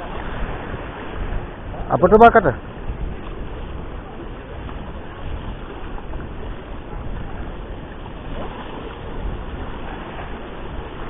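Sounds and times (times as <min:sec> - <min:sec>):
waves washing against rocks: 0:00.0 - 0:11.0
wind rumbling on microphone: 0:00.0 - 0:11.0.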